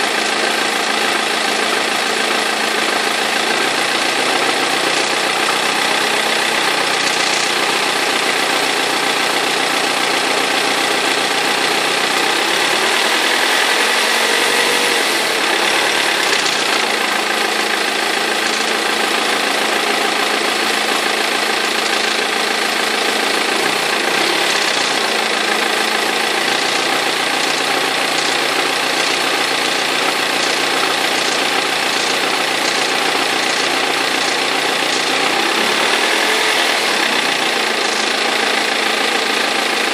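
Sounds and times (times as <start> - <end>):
diesel engine knocking and rattling: 0.0 - 39.9.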